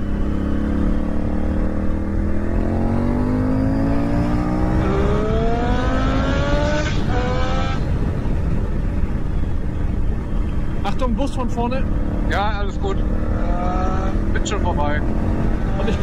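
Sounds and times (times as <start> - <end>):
motorcycle engine accelerating: 0.0 - 16.0
wind rushing over microphone: 0.0 - 16.0.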